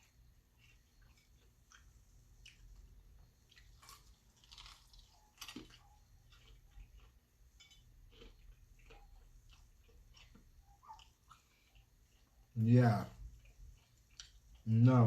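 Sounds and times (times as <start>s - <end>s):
person chewing food: 0.0s - 14.9s.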